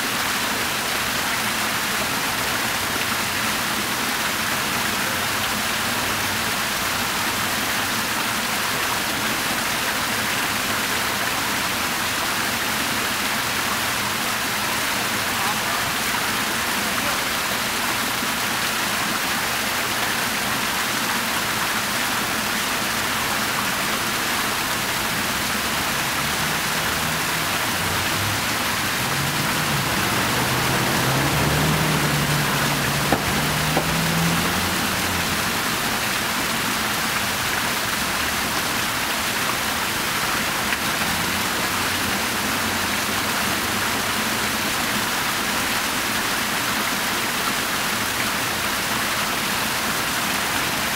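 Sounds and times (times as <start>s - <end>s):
fountain water splashing: 0.0s - 50.9s.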